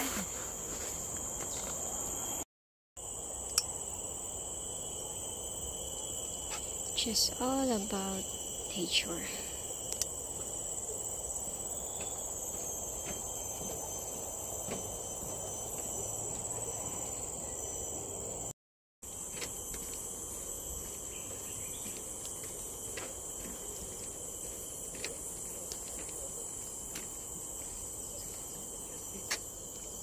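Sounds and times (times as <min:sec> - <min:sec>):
high-pitched insect chorus: 0:00.0 - 0:02.4, 0:03.0 - 0:30.0.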